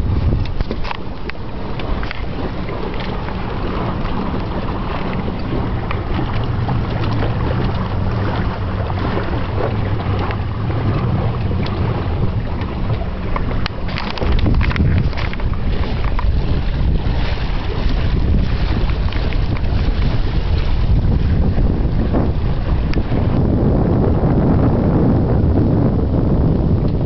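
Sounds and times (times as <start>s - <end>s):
water rushing along hulls: 0.0s - 27.0s
wind buffeting microphone: 0.0s - 27.0s.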